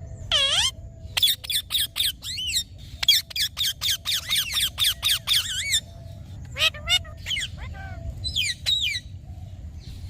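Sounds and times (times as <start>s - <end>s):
parrot screeching calls: 0.2s - 5.9s, 6.5s - 9.1s.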